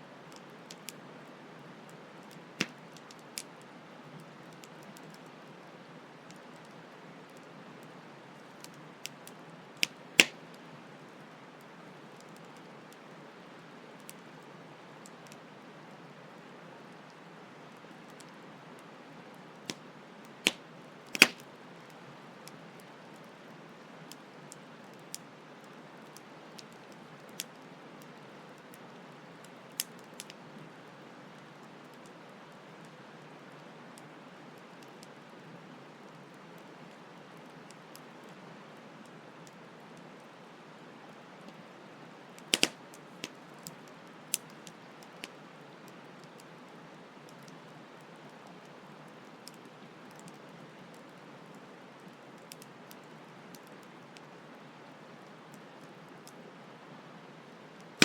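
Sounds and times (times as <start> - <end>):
soft hiss: 0.0 - 58.0
campfire crackling: 0.2 - 38.7, 39.4 - 56.5.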